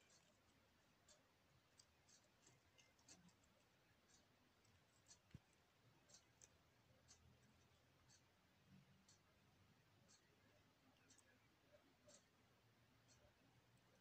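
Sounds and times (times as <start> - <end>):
faint hamster clicks: 0.0 - 14.0.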